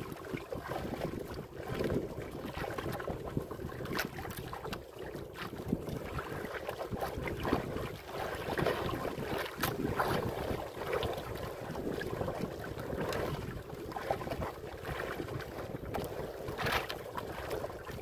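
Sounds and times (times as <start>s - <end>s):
water splashing against boat hull: 0.0s - 18.0s
wind buffeting microphone: 0.0s - 18.0s.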